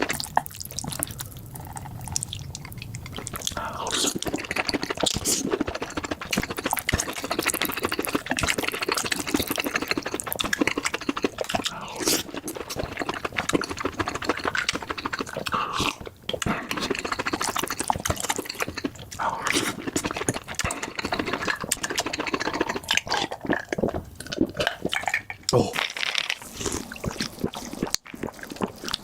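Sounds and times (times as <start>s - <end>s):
close chewing with wet mouth clicks: 0.0s - 29.0s.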